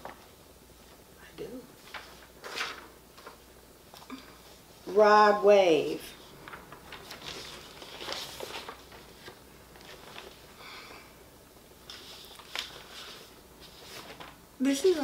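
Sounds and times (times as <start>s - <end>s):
paper rustling and shuffling: 0.0s - 1.1s, 1.8s - 5.0s, 5.8s - 10.7s, 11.7s - 15.0s.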